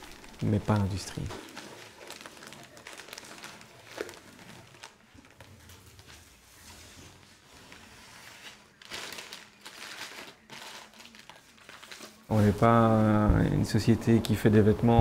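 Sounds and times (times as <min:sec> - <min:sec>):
paper tape rustling and crumpling: 0:00.0 - 0:12.9.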